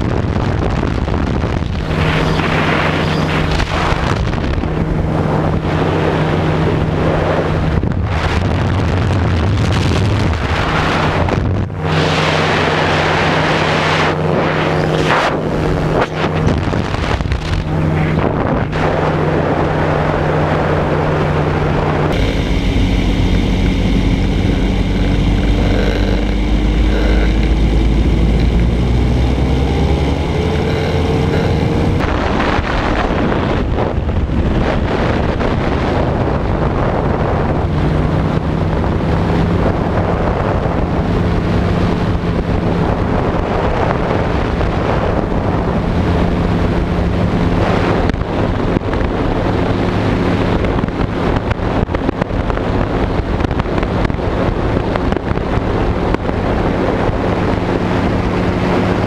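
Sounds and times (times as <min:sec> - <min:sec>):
light aircraft engine running: 0:00.0 - 0:59.0
wind buffeting microphone: 0:00.0 - 0:59.0.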